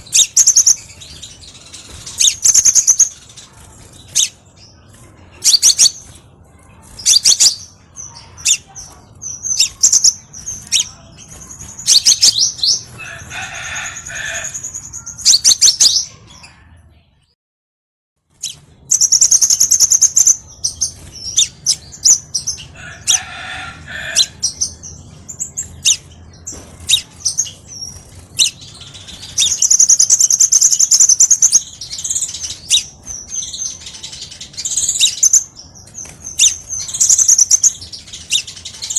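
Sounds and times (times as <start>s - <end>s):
bird chirping and trilling: 0.0s - 16.8s, 18.3s - 38.9s.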